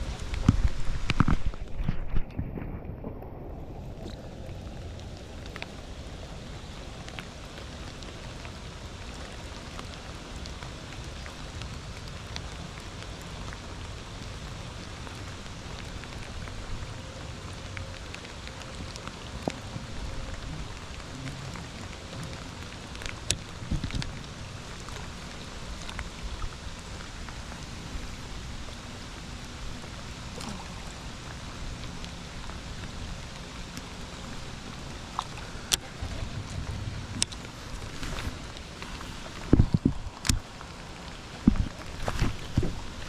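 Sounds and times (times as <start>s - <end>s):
rain falling on water: 0.0s - 43.0s.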